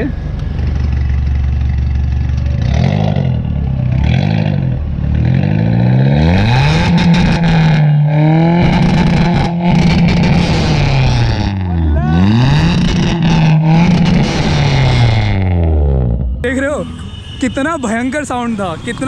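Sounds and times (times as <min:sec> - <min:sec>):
car engine revving: 0:00.6 - 0:16.5.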